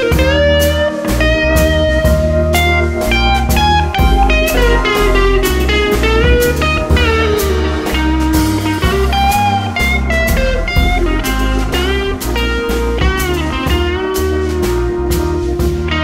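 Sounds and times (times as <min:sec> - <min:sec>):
drum and bass beat: 0:00.0 - 0:16.0
sliding lead melody: 0:00.0 - 0:16.0.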